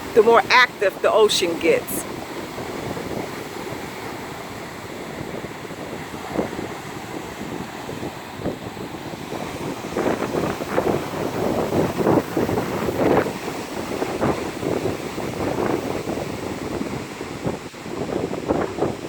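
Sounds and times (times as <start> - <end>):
ocean surf rushing: 0.0 - 19.0
wind buffeting the microphone: 0.0 - 19.0.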